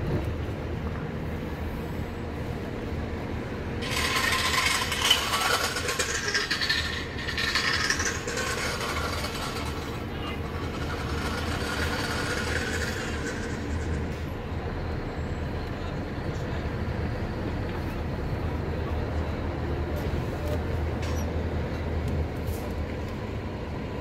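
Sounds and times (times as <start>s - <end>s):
truck engine rumble: 0.0s - 24.0s.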